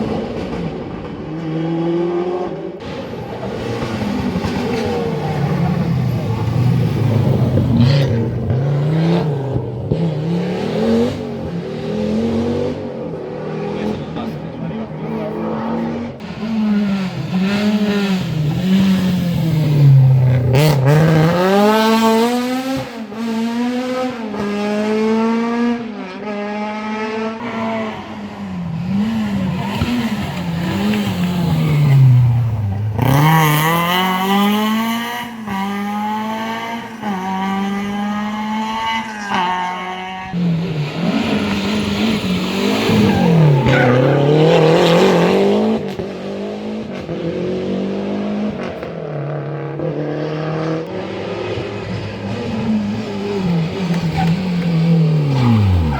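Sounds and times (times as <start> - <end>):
rally car engines revving hard: 0.0 - 55.9.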